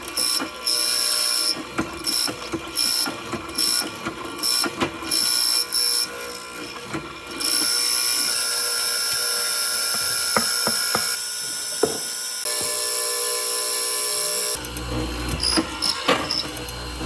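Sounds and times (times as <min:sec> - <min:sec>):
power tool running on wood: 0:00.0 - 0:17.0.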